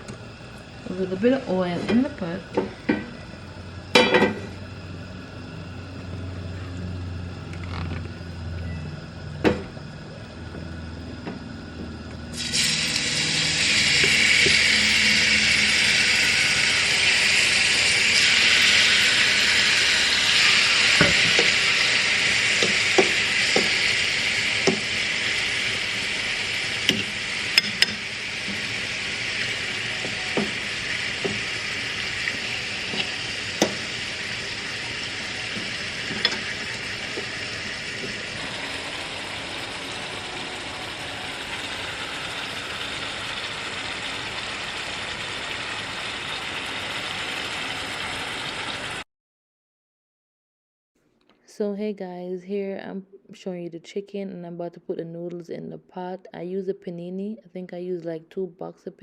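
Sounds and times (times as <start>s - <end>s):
chicken sizzling in hot oil: 0.0s - 49.0s.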